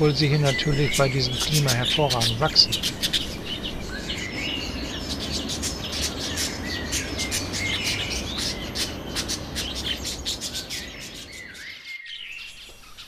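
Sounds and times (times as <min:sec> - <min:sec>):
bird whistled gliding notes: 0:00.0 - 0:13.0
birds chirping: 0:00.0 - 0:13.0.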